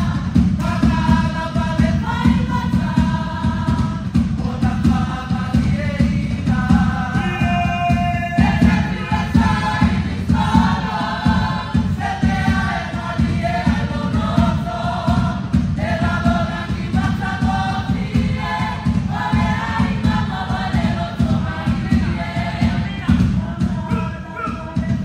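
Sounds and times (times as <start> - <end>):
fast low beat: 0.0 - 25.0
group singing in harmony: 0.0 - 25.0.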